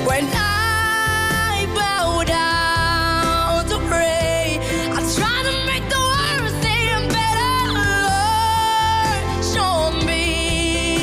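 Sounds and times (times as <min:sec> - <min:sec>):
pop band accompaniment: 0:00.0 - 0:11.0.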